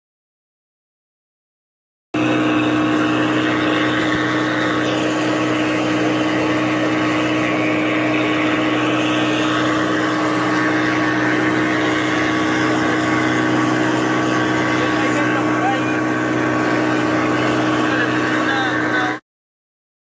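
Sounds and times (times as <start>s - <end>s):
boat engine running: 2.2s - 19.2s.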